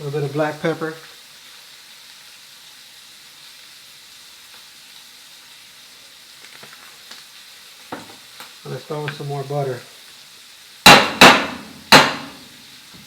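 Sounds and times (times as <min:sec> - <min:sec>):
shrimp sizzling in oil: 0:00.0 - 0:13.0.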